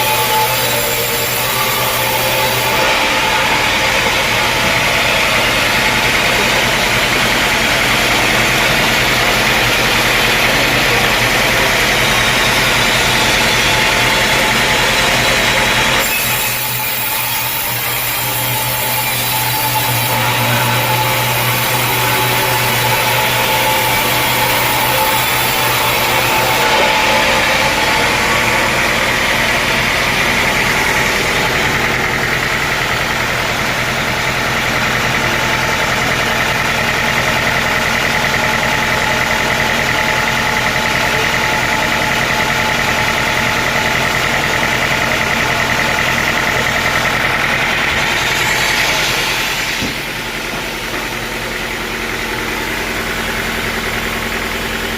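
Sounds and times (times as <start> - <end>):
sawmill engine and saw running: 0.0 - 54.9.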